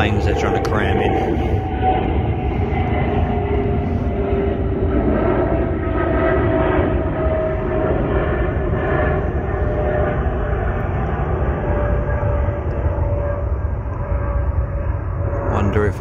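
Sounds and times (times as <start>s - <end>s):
jet airliner flying overhead: 0.0s - 16.0s.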